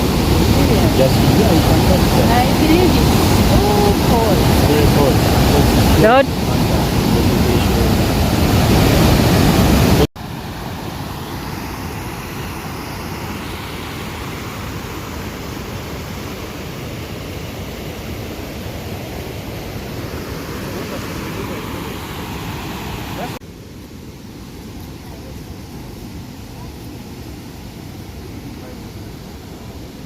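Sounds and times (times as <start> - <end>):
waterfall rushing water: 0.0 - 30.0.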